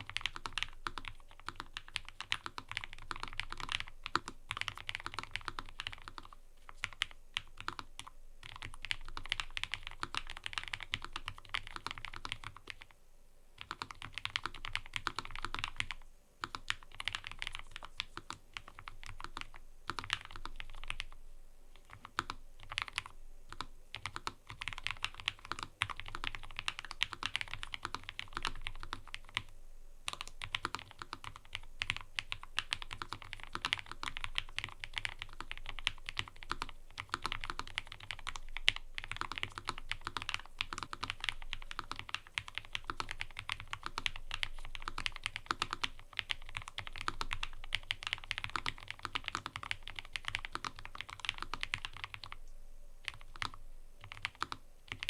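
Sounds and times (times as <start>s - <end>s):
mechanical keyboard typing: 0.0s - 12.9s, 13.6s - 21.2s, 21.8s - 29.5s, 30.1s - 52.4s, 53.0s - 55.0s.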